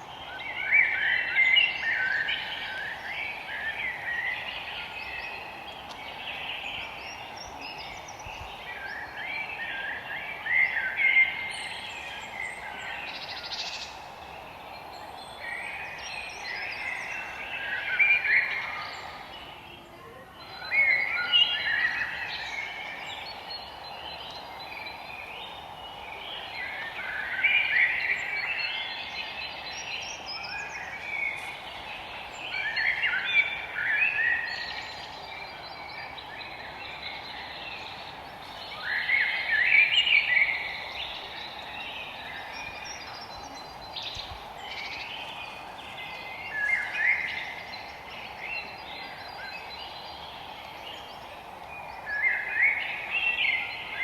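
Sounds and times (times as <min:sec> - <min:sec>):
birds singing: 0:00.0 - 0:54.0
steady background hiss: 0:00.0 - 0:54.0.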